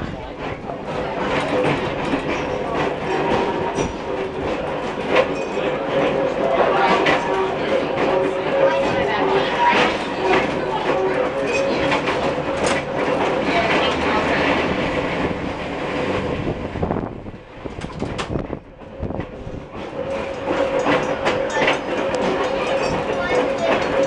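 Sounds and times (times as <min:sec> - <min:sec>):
streetcar running on rails: 0:00.0 - 0:24.0.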